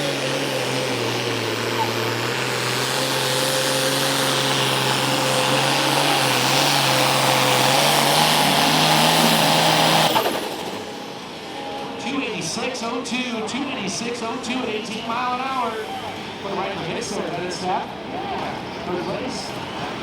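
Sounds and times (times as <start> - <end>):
tractor engine at full throttle: 0.0 - 20.0.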